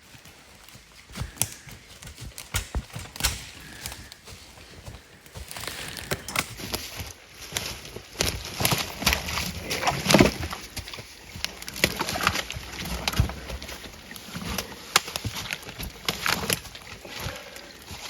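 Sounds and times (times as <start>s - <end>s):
dry leaves and twigs crunching: 0.0s - 18.0s.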